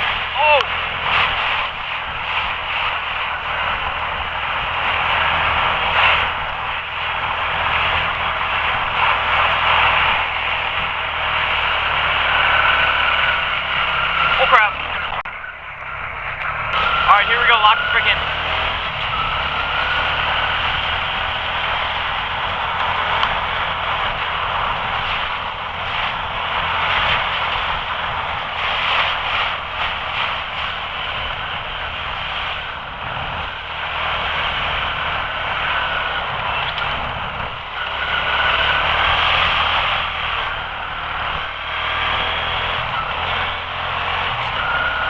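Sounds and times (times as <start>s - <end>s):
heavy rain on camera: 0.0s - 11.9s, 16.7s - 44.9s
wind noise on microphone: 0.0s - 17.1s, 18.0s - 45.0s
quad engine running: 0.0s - 45.0s.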